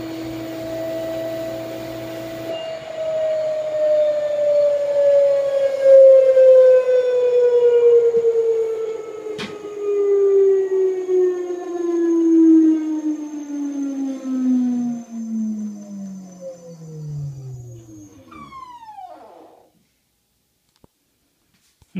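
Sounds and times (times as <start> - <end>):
washing machine spin whine: 0.0 - 19.8.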